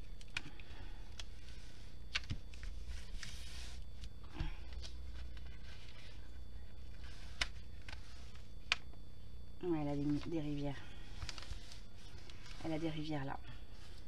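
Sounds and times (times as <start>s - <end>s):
steady low hum: 0.0s - 14.0s
plastic film rustling: 1.1s - 8.8s, 10.0s - 14.0s.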